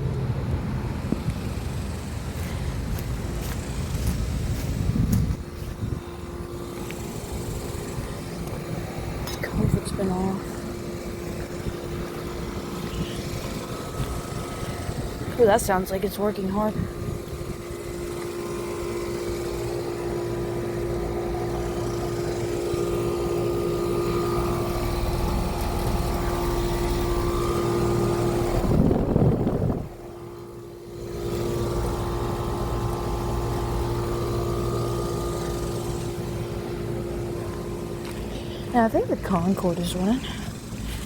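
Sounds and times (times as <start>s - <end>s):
air conditioner compressor hum: 0.0s - 41.0s.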